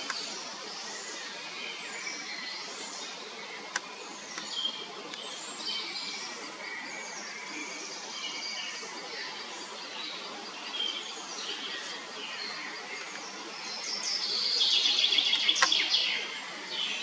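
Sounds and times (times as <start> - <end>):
birds chirping and calling: 0.0 - 17.0
outdoor background noise: 0.0 - 17.0.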